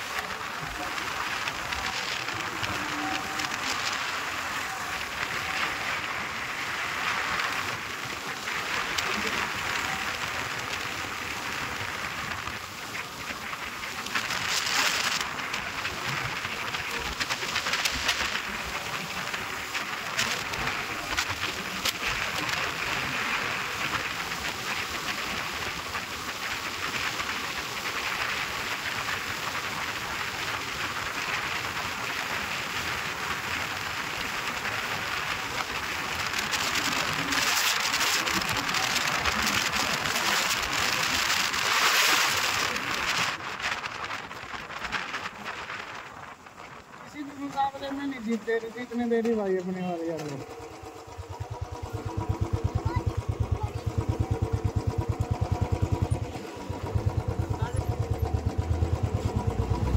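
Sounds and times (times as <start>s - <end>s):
wind and road noise on microphone: 0.0s - 59.9s.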